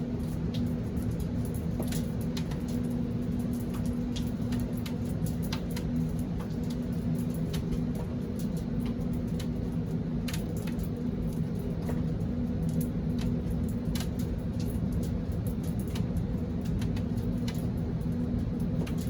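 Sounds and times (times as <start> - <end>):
raindrops ticking: 0.0 - 19.0
steady low hum: 0.0 - 19.0.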